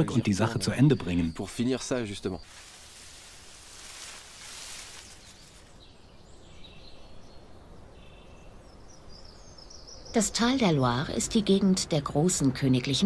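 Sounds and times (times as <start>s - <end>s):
wind in foliage: 1.1s - 11.6s.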